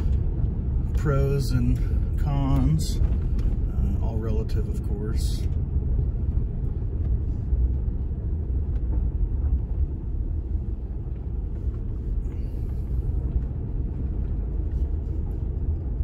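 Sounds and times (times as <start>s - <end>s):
vehicle rumbling on dirt road: 0.0s - 16.0s.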